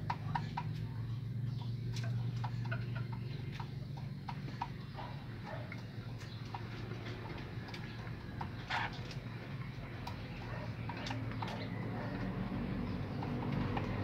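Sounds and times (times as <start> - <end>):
beaks tapping the ground: 0.0 - 14.0
steady low hum: 0.0 - 14.0.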